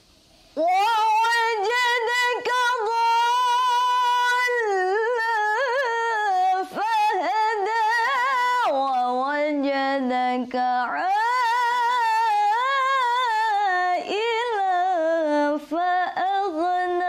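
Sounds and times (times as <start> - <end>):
woman reciting melodically: 0.6 - 17.0.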